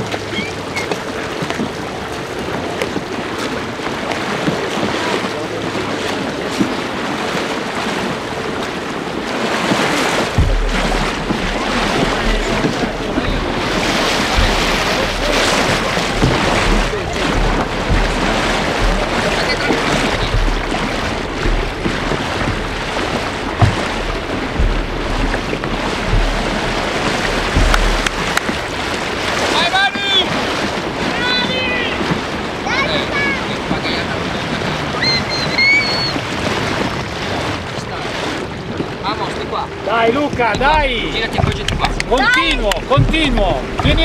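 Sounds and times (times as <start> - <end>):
kayak paddles splashing: 0.0 - 44.0
water rushing along hulls: 0.0 - 44.0
wind rumbling on microphone: 0.0 - 44.0.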